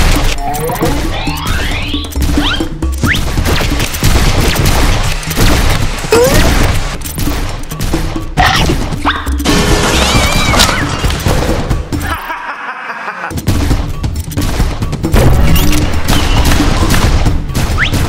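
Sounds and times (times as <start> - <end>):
action music: 0.0 - 18.0.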